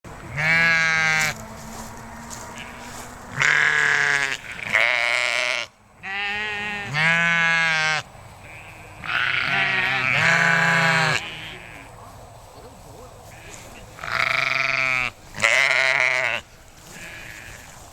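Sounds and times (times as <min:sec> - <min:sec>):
sheep bleating: 0:00.3 - 0:12.0, 0:13.2 - 0:17.8.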